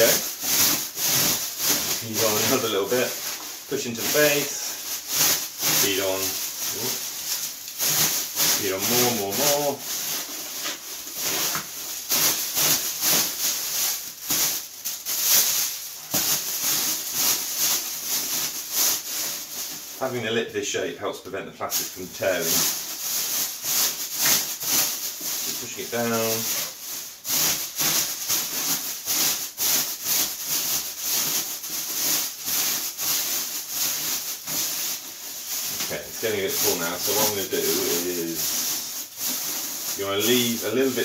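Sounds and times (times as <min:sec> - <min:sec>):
plastic rubbing against cardboard tube: 0:00.0 - 0:20.1, 0:21.6 - 0:41.0
plastic film crinkling: 0:00.0 - 0:20.3, 0:21.6 - 0:41.0.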